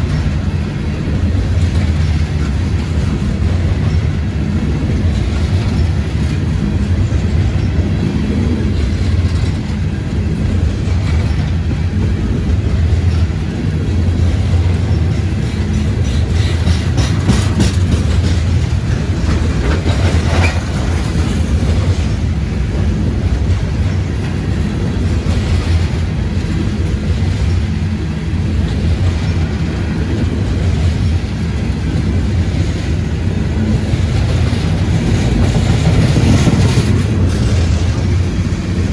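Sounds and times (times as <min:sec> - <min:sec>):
freight train rumbling: 0:00.0 - 0:38.9
wheels clacking over rail joints: 0:00.0 - 0:38.9.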